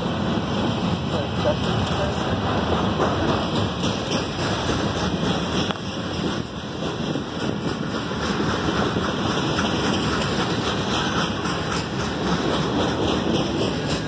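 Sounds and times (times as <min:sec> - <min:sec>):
freight train cars rolling: 0:00.0 - 0:14.0.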